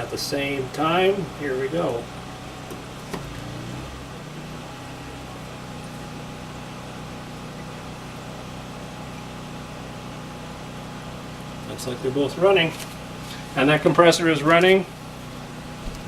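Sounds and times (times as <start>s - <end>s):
portable generator running: 0.0s - 16.0s.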